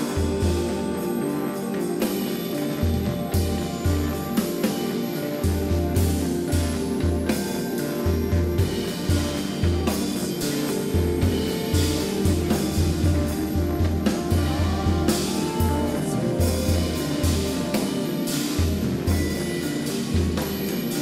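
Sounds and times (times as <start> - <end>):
drums and cymbals: 0.0 - 21.0
electric guitar playing: 0.0 - 21.0.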